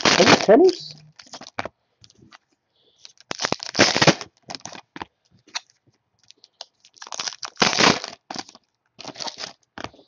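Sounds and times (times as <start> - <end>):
wrapper crinkling and tearing: 0.0 - 2.4, 3.0 - 10.0.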